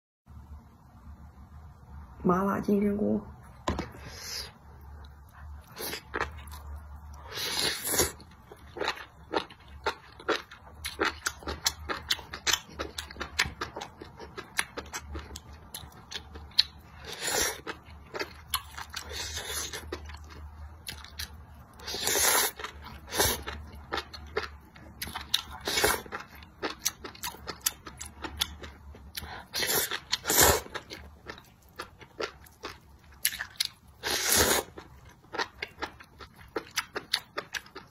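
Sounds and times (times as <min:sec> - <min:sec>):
wet chewing with crisp clicks: 0:04.9 - 0:37.9.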